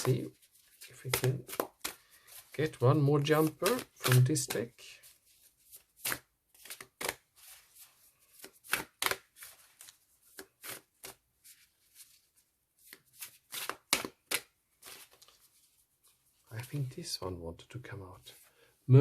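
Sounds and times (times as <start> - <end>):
cards being shuffled: 0.0 - 16.9.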